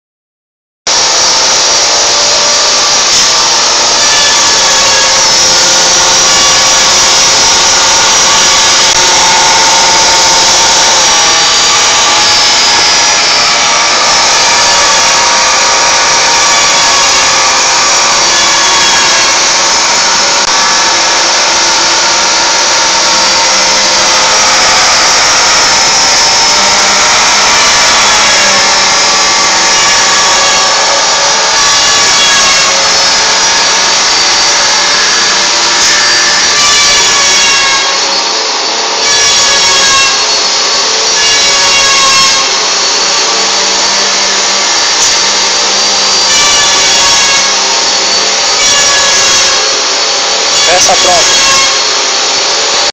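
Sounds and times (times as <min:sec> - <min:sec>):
router cutting plastic: 0:00.9 - 0:52.9
spindle high whine: 0:00.9 - 0:52.9.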